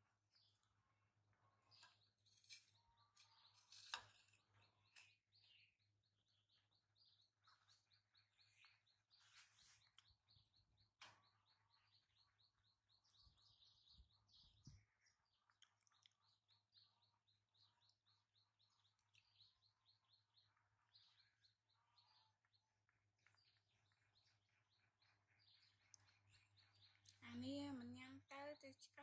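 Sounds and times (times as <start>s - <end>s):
faint bird chirping: 0.0s - 29.0s.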